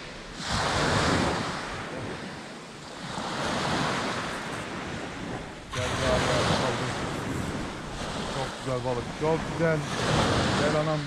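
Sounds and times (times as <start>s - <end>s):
waves washing on pebble beach: 0.0s - 11.0s.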